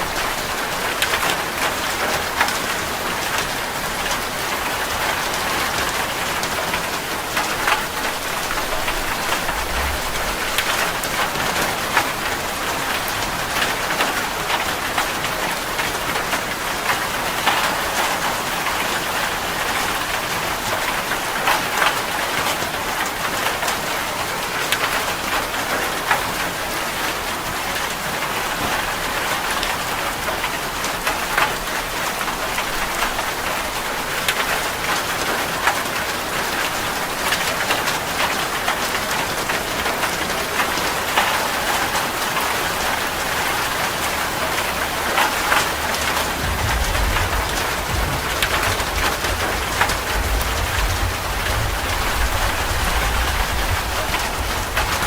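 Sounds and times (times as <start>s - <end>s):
heavy rain on a metal roof: 0.0s - 55.0s.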